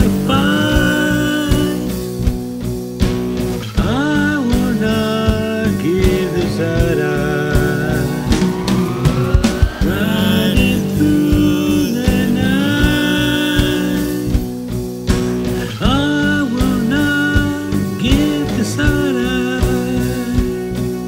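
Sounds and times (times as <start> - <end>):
electric guitar lead line bending: 0.0 - 21.0
instrumental rock song: 0.0 - 21.0.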